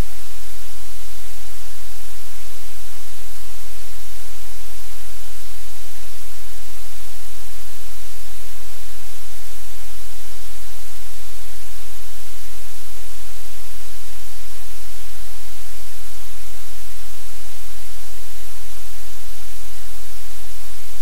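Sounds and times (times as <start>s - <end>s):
static hiss: 0.0s - 21.0s.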